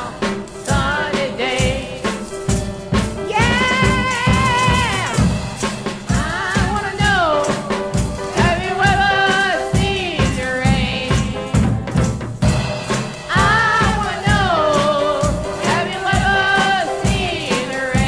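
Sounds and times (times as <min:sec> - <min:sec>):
voices singing: 0:00.0 - 0:02.3, 0:03.3 - 0:05.3, 0:06.1 - 0:11.6, 0:13.3 - 0:18.0
drum kit beat: 0:00.0 - 0:18.0
pop-rock song from vinyl record: 0:00.0 - 0:18.0.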